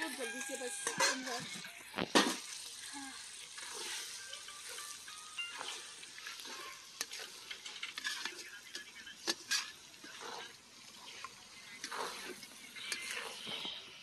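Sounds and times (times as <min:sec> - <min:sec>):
ladle scraping a pan: 0:00.0 - 0:02.7, 0:03.3 - 0:13.9
masala sizzling in a pan: 0:00.0 - 0:14.0.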